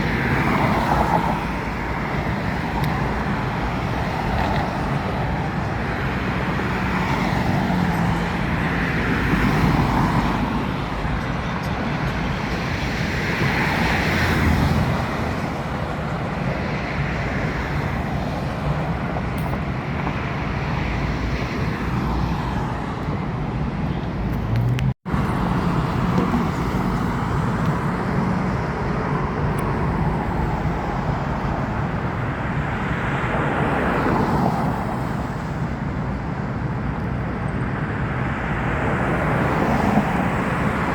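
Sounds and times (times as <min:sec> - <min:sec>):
road traffic noise: 0:00.0 - 0:40.9
vehicles passing: 0:00.0 - 0:40.9.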